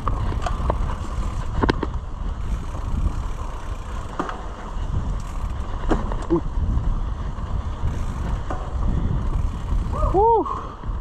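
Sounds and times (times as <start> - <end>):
bike knocks and rattles: 0.0 - 11.0
wind and tyre rumble: 0.0 - 11.0.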